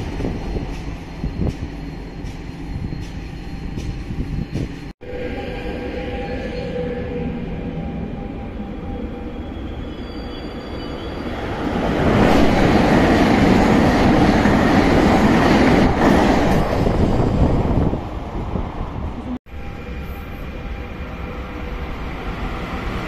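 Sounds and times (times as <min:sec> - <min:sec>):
train passing with rail noise: 0:00.0 - 0:23.0.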